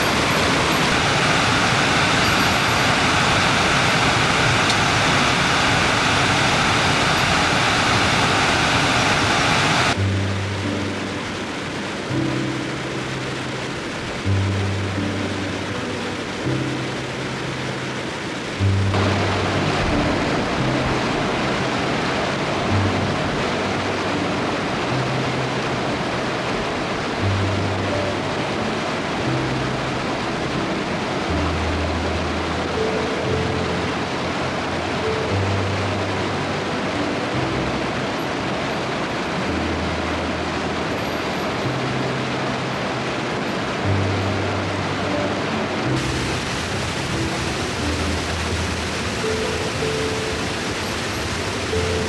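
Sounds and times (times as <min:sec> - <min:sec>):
stream rushing over rocks: 0:00.0 - 0:52.0.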